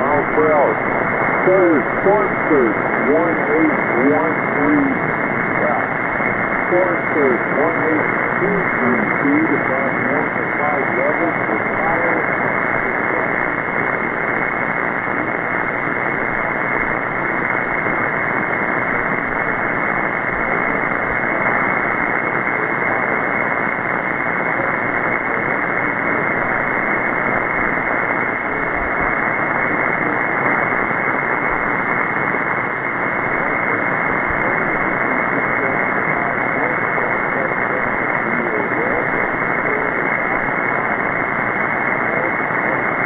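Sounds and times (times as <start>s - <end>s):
shortwave radio static hiss: 0.0s - 43.0s.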